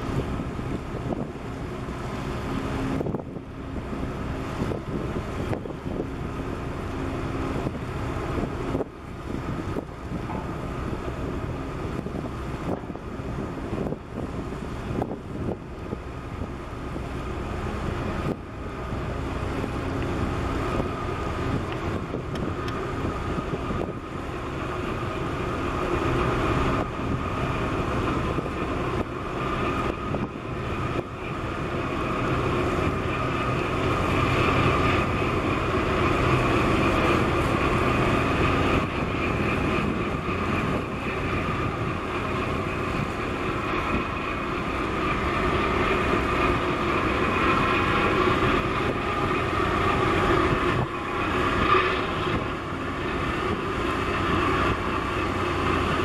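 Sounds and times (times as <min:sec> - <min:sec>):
boat engine drone: 0:00.0 - 0:56.0
water wash: 0:00.0 - 0:56.0
wind: 0:00.0 - 0:56.0.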